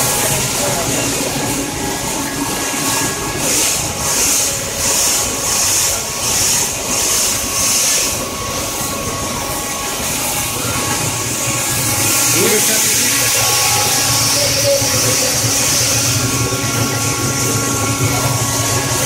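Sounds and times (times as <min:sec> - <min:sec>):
machine humming and rattling: 0:00.0 - 0:19.0.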